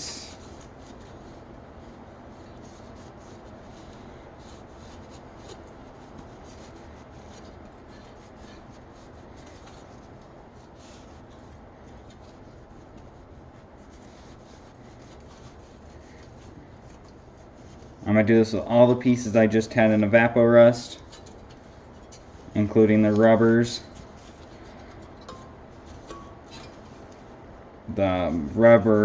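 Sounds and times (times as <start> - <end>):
cloth rubbing on metal: 0.0 - 29.0.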